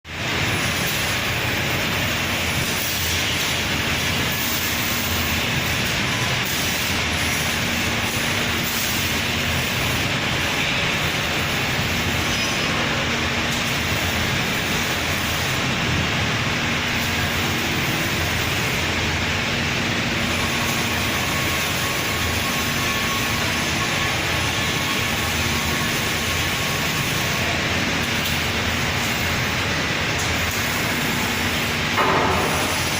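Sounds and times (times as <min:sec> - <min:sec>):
welding machine running: 0:00.1 - 0:32.9.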